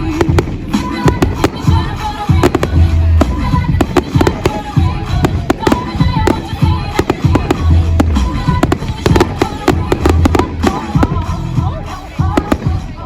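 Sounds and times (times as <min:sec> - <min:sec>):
deep booming thuds: 0:00.0 - 0:13.0
fireworks bangs and crackles: 0:00.0 - 0:13.0
music playing: 0:00.0 - 0:13.0.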